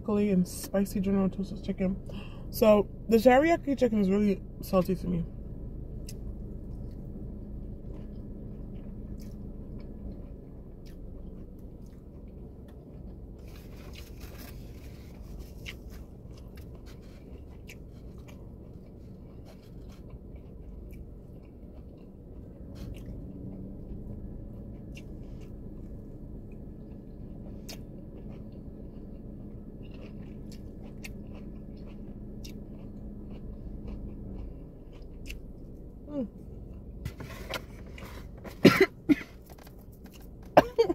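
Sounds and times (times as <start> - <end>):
low hum in car cabin: 0.0 - 40.9
chewing and biting food: 5.9 - 40.8.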